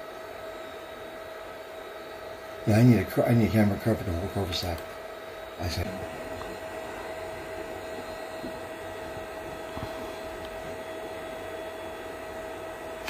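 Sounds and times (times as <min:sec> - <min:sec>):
background hum and hiss: 0:00.0 - 0:13.0
faint whining tone: 0:00.0 - 0:13.0.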